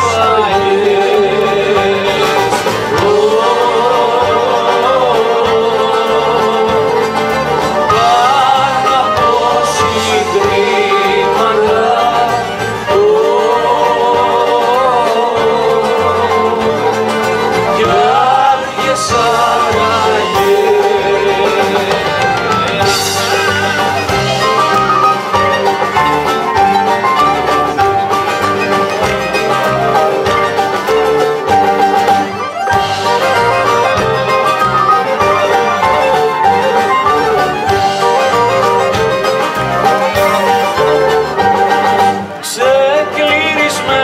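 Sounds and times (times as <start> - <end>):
accordion: 0.0 - 44.0
person singing: 0.0 - 44.0
plucked string instrument: 0.0 - 44.0.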